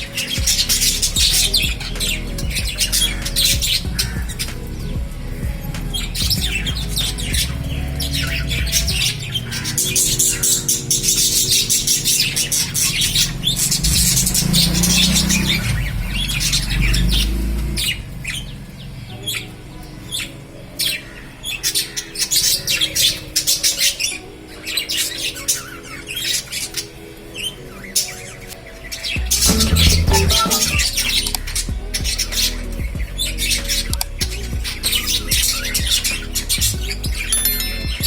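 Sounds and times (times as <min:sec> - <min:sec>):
lovebirds chirping and squawking: 0:00.0 - 0:38.0
soft background music: 0:00.0 - 0:38.0.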